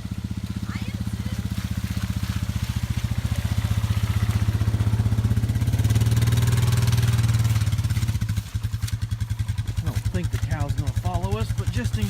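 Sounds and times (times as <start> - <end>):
atv engine putter: 0.0 - 12.0.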